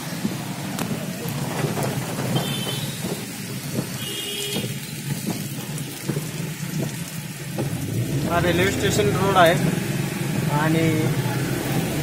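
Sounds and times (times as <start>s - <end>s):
car engine and road noise: 0.0s - 12.0s
heavy rain on car roof: 0.0s - 12.0s.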